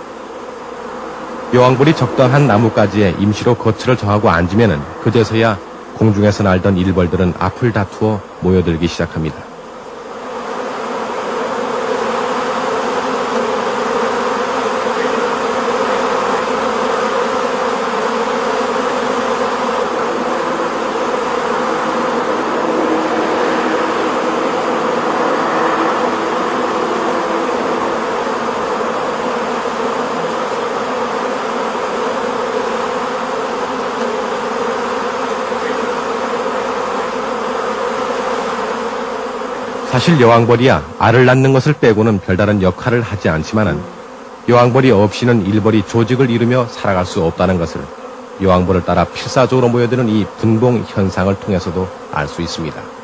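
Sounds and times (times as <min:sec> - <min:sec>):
swarm of bees buzzing: 0:00.0 - 0:53.0.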